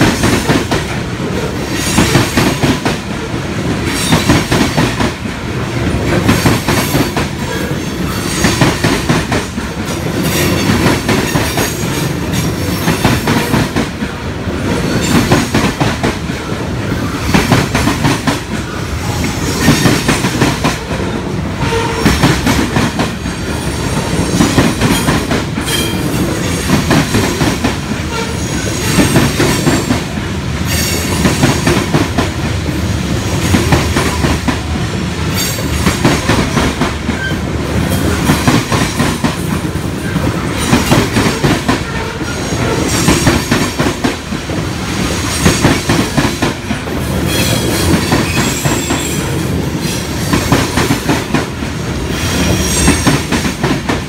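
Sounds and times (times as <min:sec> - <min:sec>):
train wheels clacking over rail joints: 0:00.0 - 0:54.0.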